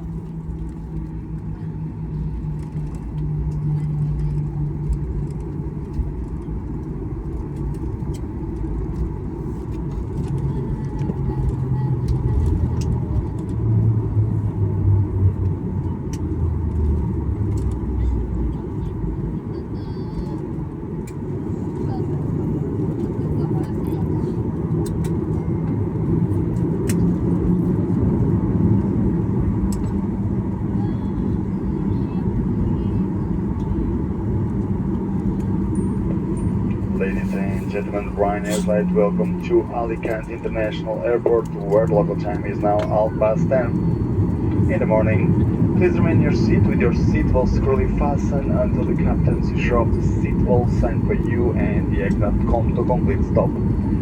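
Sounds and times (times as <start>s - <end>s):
airliner cabin rumble while taxiing: 0.0s - 54.0s
jet engines humming: 0.0s - 54.0s.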